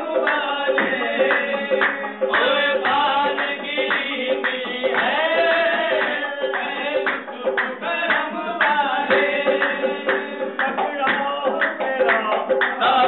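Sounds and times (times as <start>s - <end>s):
harmonium chords: 0.0s - 13.0s
men singing together: 0.0s - 13.0s
rhythmic hand clapping: 0.0s - 13.0s.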